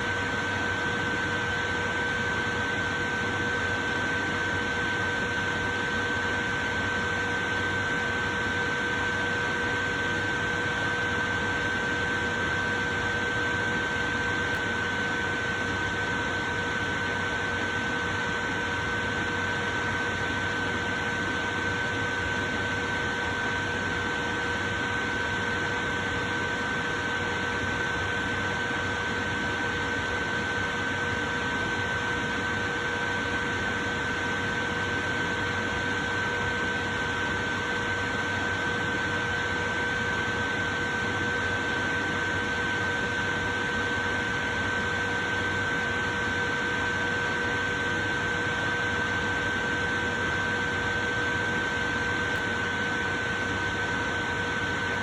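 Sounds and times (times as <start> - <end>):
electric fan running: 8.0 - 55.0.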